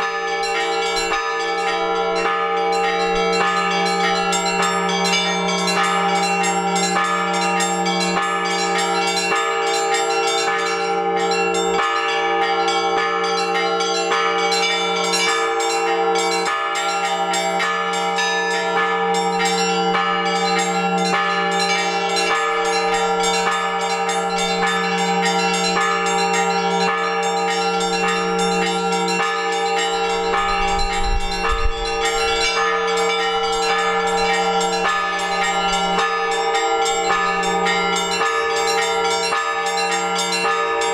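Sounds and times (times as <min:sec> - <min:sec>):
hum of large bells: 0:00.0 - 0:40.9
small church bells fast strokes: 0:00.0 - 0:40.9.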